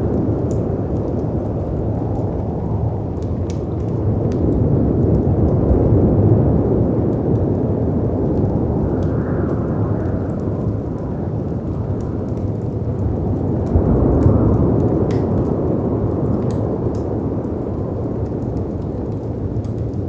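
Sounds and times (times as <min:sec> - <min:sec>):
wind rumble and howl: 0:00.0 - 0:20.0
wood fire crackling and popping: 0:00.0 - 0:20.0.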